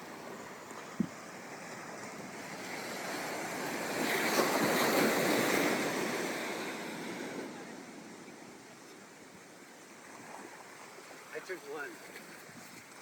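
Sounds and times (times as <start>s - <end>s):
ocean wave breaking on beach: 0.0s - 13.0s.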